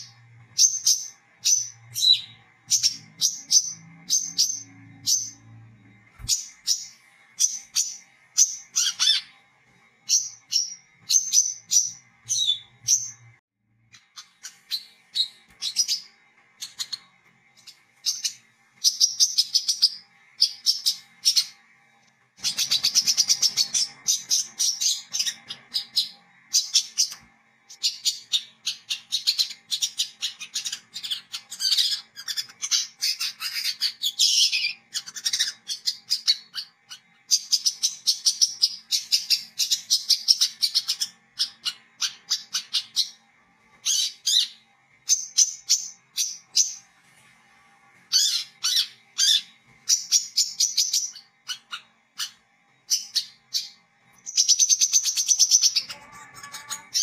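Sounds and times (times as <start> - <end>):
bird twittering chirps: 0.0 - 9.4, 10.0 - 21.6, 22.4 - 43.2, 48.1 - 57.0
faint steady hum: 0.0 - 57.0.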